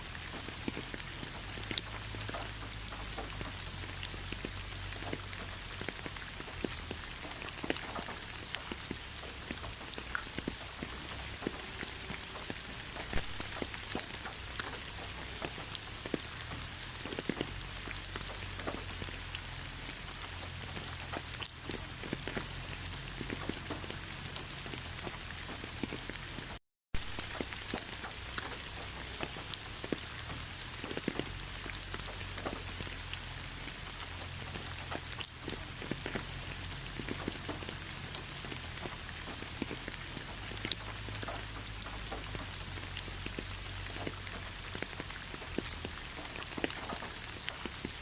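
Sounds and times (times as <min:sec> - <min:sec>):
rain drops pattering: 0:00.0 - 0:48.0
rain hiss: 0:00.0 - 0:48.0.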